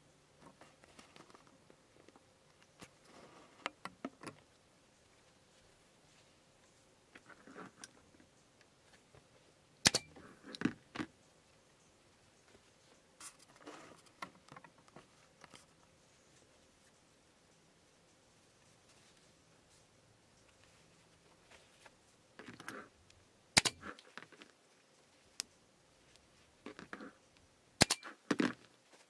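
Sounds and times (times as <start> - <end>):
soft rustling: 0.4 - 23.1, 24.0 - 27.4, 28.6 - 29.0.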